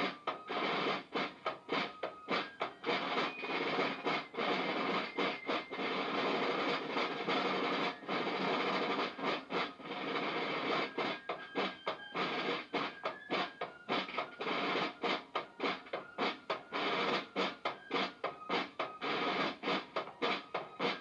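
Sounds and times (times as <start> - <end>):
snare drums rolling: 0.0 - 21.0.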